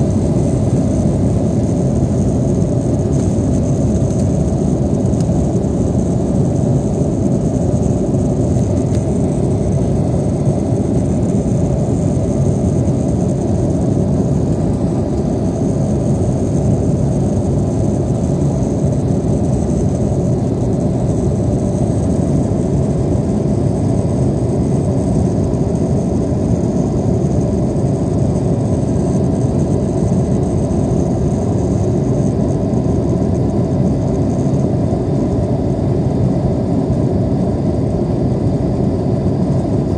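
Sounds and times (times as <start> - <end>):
airliner engines rumbling in cabin: 0.0 - 39.9
faint high engine whine: 0.0 - 39.9.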